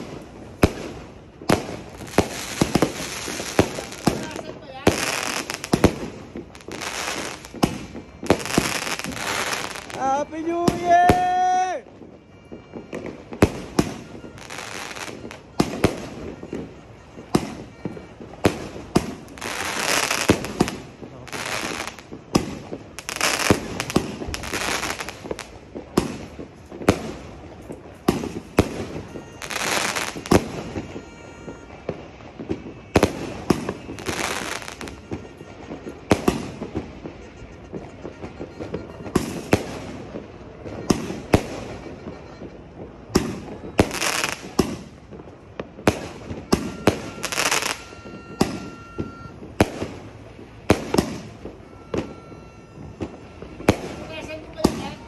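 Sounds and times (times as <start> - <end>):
firework bangs: 0.0 - 55.0.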